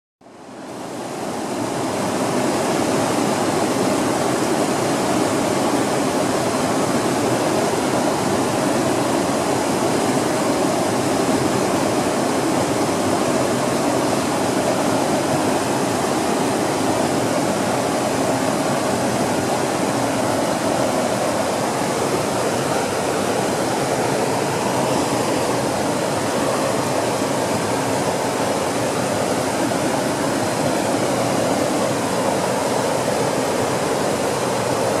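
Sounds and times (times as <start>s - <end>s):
creek water rushing over rocks: 0.3s - 35.0s.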